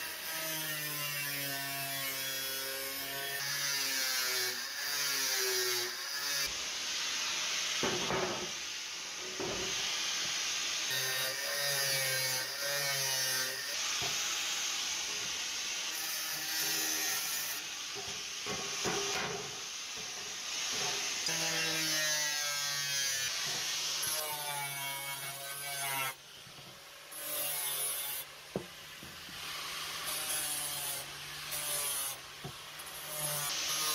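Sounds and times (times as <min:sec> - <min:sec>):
angle grinder cutting steel: 0:00.0 - 0:06.6, 0:09.4 - 0:26.2, 0:27.0 - 0:28.3, 0:29.2 - 0:33.9.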